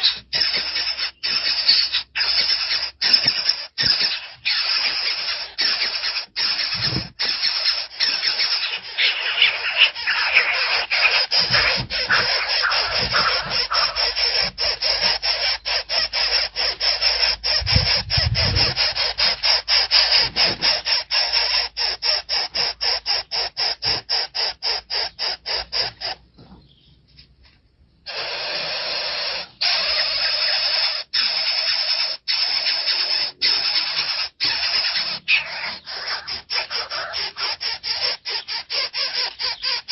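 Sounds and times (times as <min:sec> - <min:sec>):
hawk chicks squealing cheeps: 0:00.0 - 0:26.9, 0:28.1 - 0:39.9.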